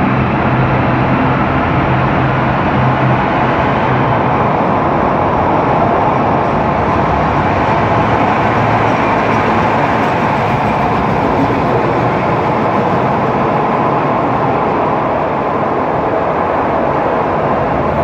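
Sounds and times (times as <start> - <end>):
train rumbling into station: 0.0 - 18.0.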